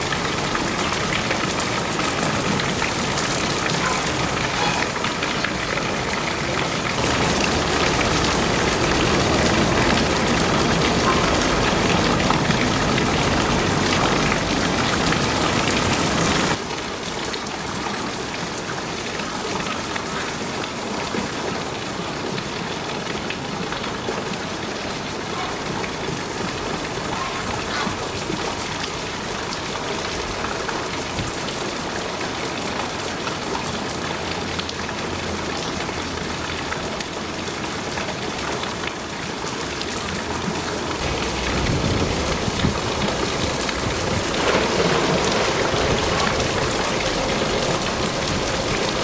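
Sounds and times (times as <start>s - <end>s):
hiss of rain or running water: 0.0s - 49.0s.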